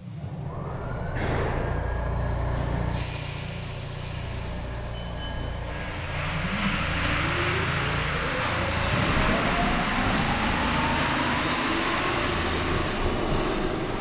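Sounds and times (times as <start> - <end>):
train rumbling: 0.0 - 14.0
train motor whine rising: 0.1 - 14.0.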